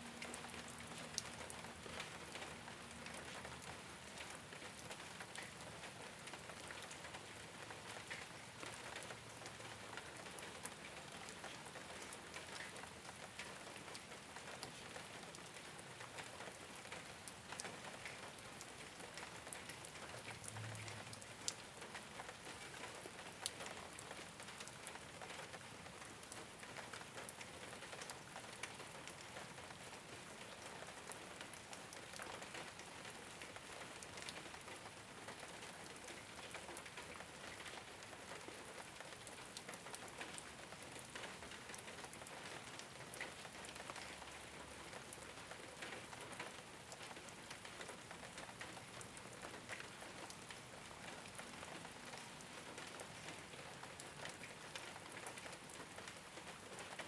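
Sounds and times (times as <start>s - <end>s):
rain on a rooftop: 0.0s - 57.0s.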